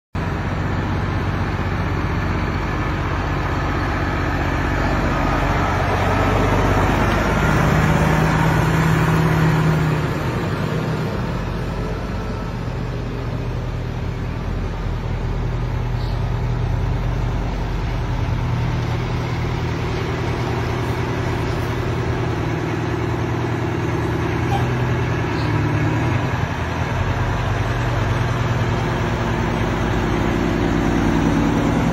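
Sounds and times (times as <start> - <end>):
truck diesel engines running: 0.2 - 31.9.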